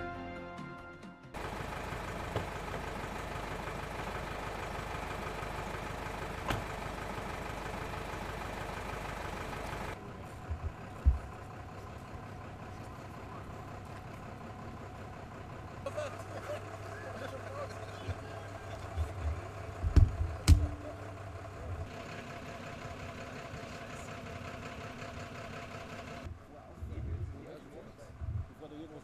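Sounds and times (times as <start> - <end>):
fire engine idling: 1.3 - 26.8.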